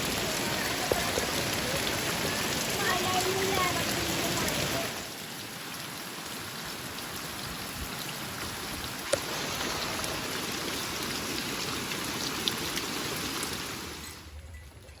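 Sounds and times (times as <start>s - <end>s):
sharp raindrops striking: 0.0s - 15.0s
steady rain falling: 0.0s - 15.0s.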